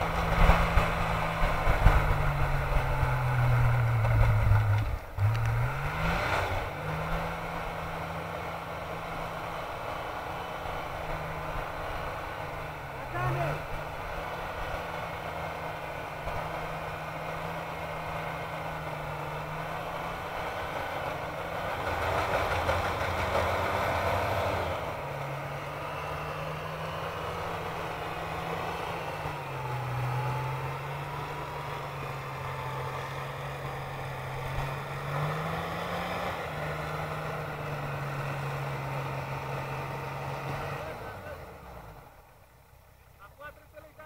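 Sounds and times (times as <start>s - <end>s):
off-road vehicle engine running: 0.0s - 44.0s.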